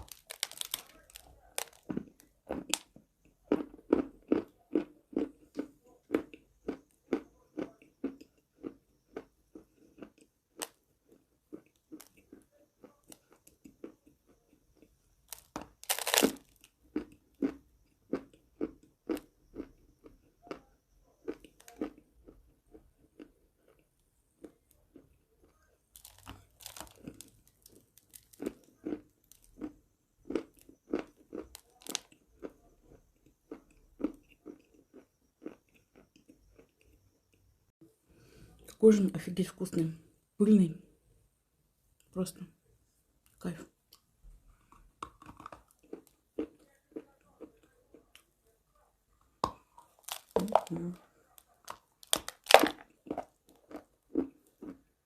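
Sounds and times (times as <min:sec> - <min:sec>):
person chewing chalk: 0:00.0 - 0:37.5, 0:43.2 - 0:48.3, 0:49.2 - 0:54.9.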